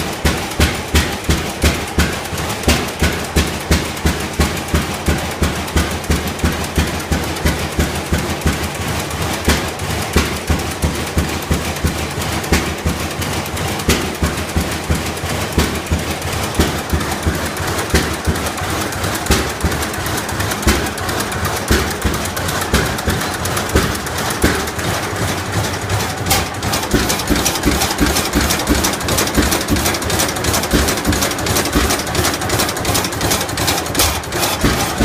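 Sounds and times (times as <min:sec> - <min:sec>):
tractor engine exhaust popping: 0:00.0 - 0:35.0.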